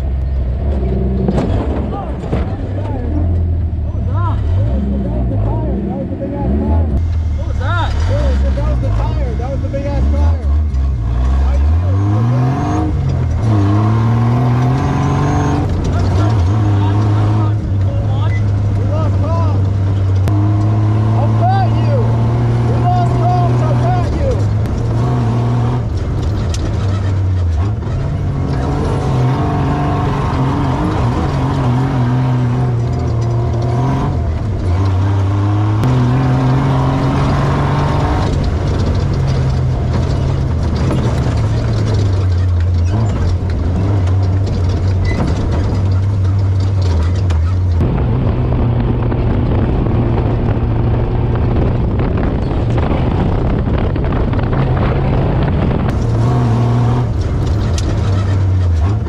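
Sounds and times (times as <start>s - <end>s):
race vehicle engine revving: 0.0s - 59.0s.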